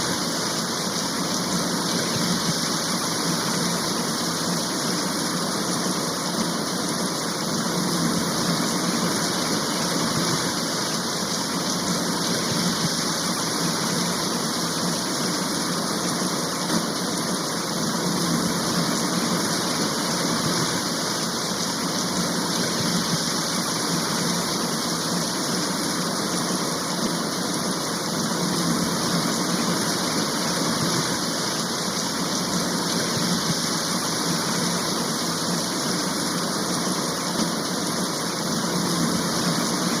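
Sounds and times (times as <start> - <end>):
heavy rain hiss: 0.0 - 40.0.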